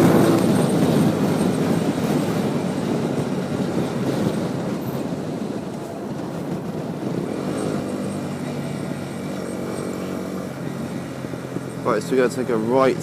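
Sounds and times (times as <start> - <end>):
wind rushing: 0.0 - 12.0
motorcycle engine running: 0.0 - 13.0.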